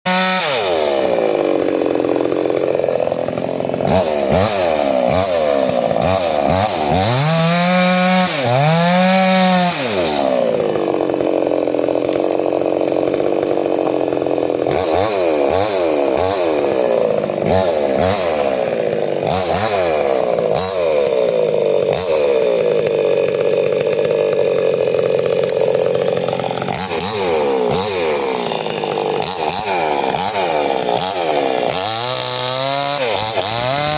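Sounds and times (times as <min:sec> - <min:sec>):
chainsaw engine revving: 0:00.1 - 0:33.9.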